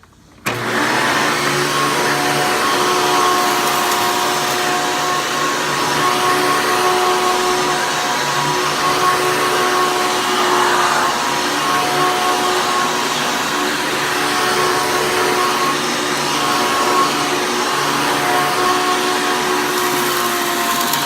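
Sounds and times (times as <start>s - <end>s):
vacuum cleaner running: 0.4s - 21.0s.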